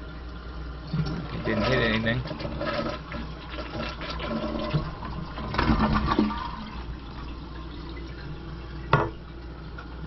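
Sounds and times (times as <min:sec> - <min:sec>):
toilet water running: 0:00.0 - 0:10.0.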